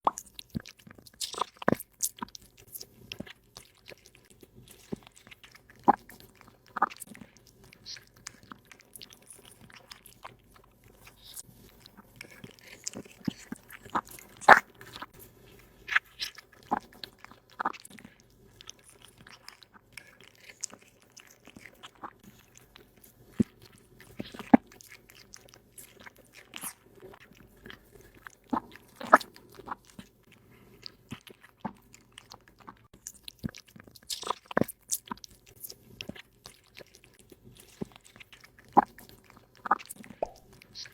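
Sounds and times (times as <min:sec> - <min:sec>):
cat crunching food: 0:00.1 - 0:40.9.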